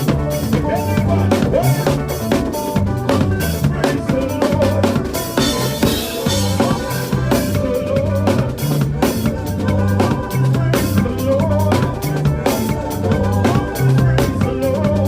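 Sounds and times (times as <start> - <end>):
bass line: 0.0 - 15.0
drum kit groove: 0.0 - 15.0
praise music: 0.0 - 15.0.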